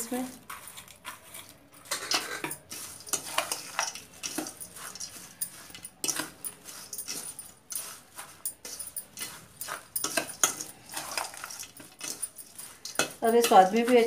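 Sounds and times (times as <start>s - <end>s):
metal spoon stirring dry snack mix: 0.0s - 14.0s.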